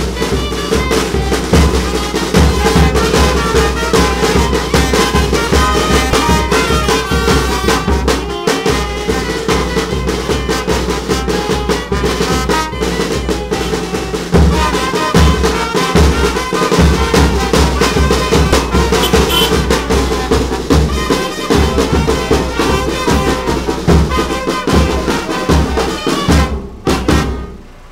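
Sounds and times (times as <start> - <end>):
street band playing: 0.0 - 27.9.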